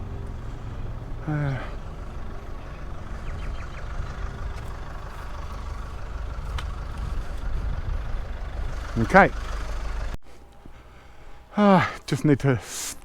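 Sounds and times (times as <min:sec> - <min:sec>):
van engine running: 0:00.0 - 0:11.6.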